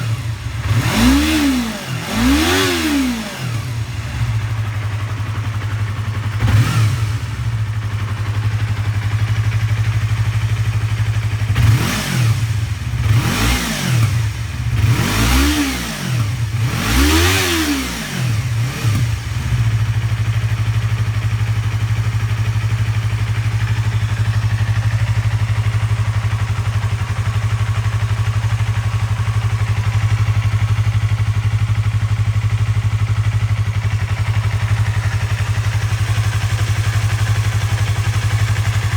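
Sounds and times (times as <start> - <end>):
motorcycle engine idling: 0.0 - 38.9
motorcycle engine revving: 0.0 - 38.9.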